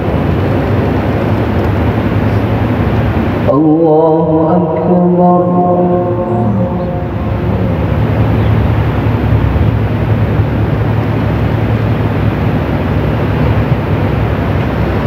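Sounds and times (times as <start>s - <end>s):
low hum: 0.0s - 15.0s
rushing room noise: 0.0s - 15.0s.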